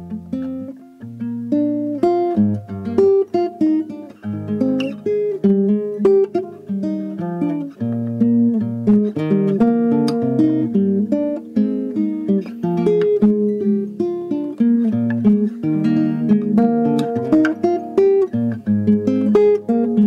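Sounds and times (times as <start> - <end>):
acoustic guitar picking: 0.0 - 20.0.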